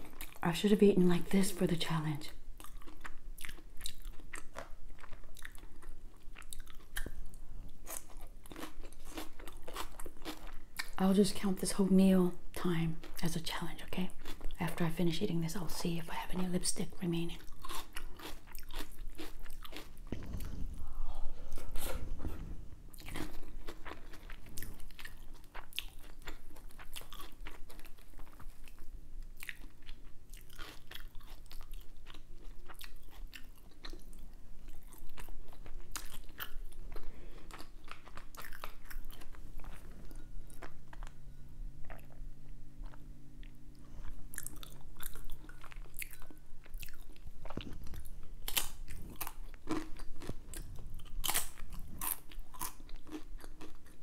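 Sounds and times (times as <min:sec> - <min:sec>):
chewing and biting: 0:02.6 - 0:11.0, 0:17.4 - 0:41.2, 0:42.8 - 0:54.0.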